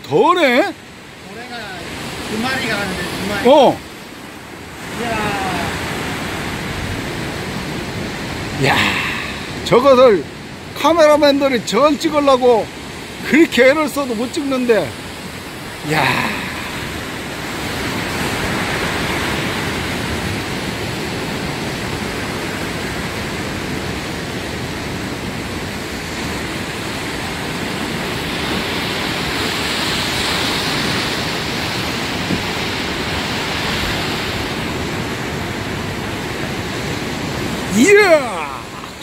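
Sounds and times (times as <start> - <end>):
ocean surf: 0.0 - 39.0
wind: 0.0 - 39.0.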